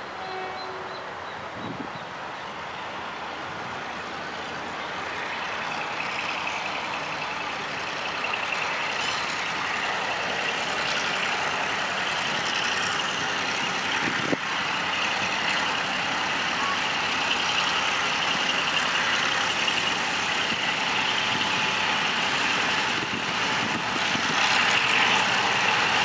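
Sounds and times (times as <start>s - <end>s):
locomotive engine and wheels: 0.0s - 26.0s.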